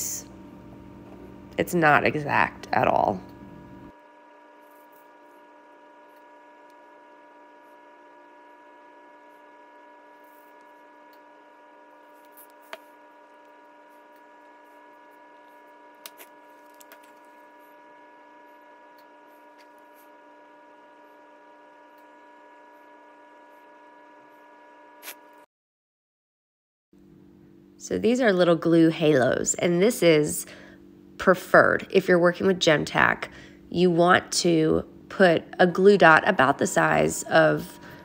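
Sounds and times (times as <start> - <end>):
faint electrical hum: 0.0 - 25.4, 27.0 - 38.0.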